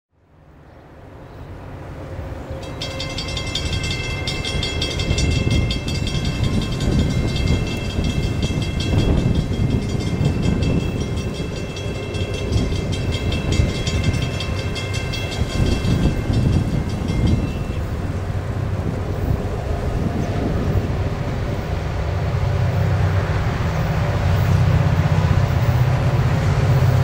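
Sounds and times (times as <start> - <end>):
distant freight train rumble: 0.2 - 27.0.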